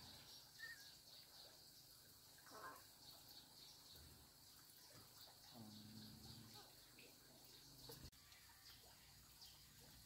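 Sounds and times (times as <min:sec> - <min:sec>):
faint high chirping: 0:00.0 - 0:10.0.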